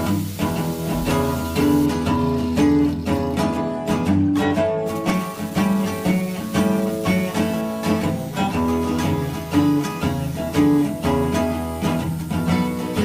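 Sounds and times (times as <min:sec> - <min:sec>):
acoustic guitar melody: 0:00.0 - 0:13.0.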